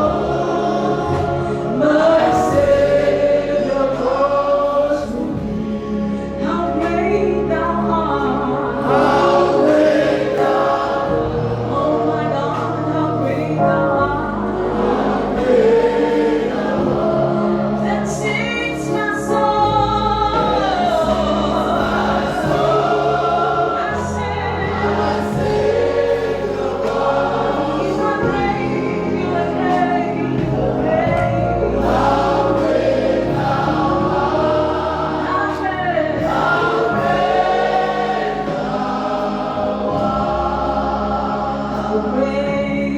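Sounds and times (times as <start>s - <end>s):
choir singing gospel song: 0.0s - 42.9s
sustained instrumental backing: 0.0s - 42.9s.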